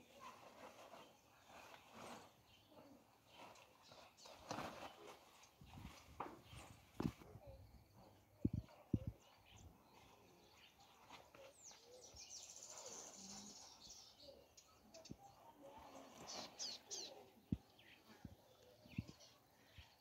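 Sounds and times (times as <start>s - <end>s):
birds chirping: 0.9s - 20.0s.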